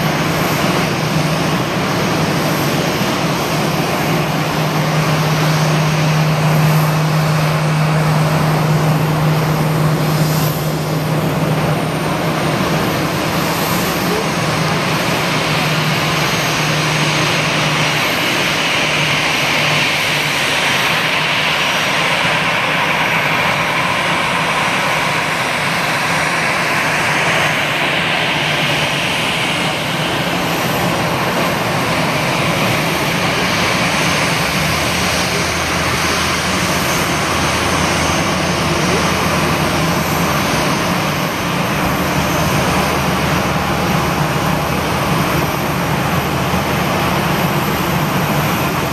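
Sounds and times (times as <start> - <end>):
jet engine whine: 0.0 - 48.9.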